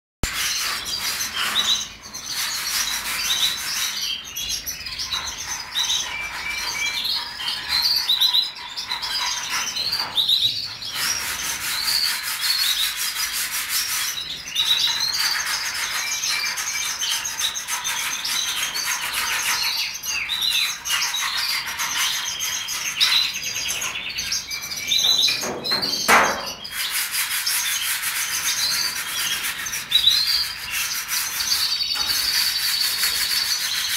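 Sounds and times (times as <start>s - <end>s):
songbirds chirping and trilling: 0.3s - 33.9s.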